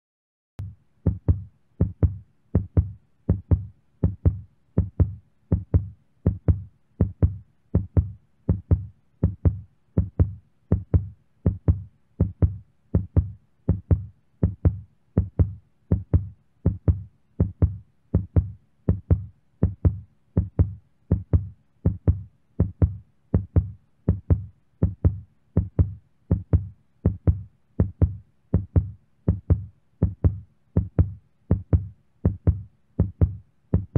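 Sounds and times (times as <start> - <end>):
heartbeat thumps: 0.6 - 33.9.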